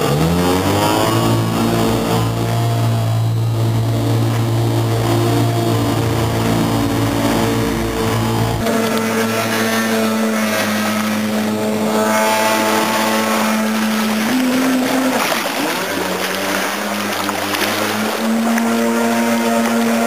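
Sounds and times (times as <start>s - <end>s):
jet ski engine running: 0.0s - 20.0s.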